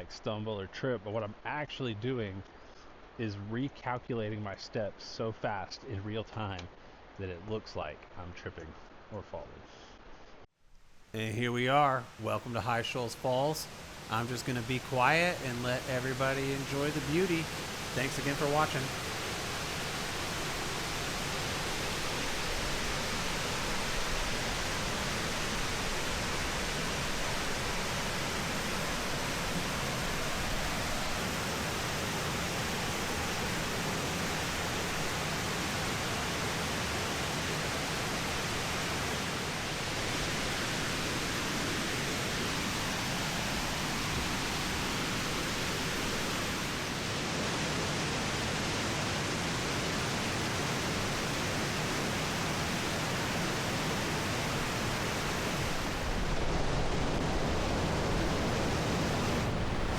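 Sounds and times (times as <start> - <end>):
waterfall rushing: 11.2 - 59.9.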